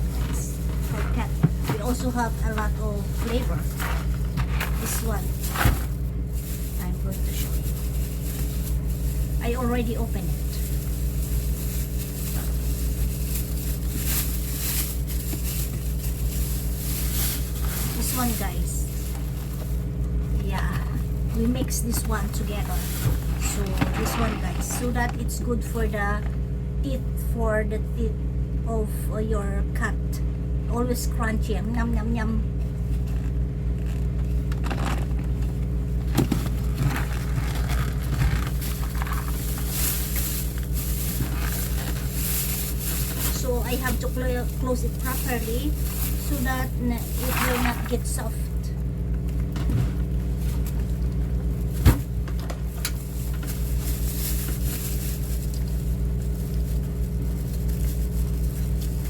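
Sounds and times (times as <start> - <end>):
rustling: 0.0 - 26.0, 32.8 - 59.0
plastic bag crinkling: 0.0 - 26.4, 32.7 - 59.0
low mechanical hum: 0.0 - 59.0.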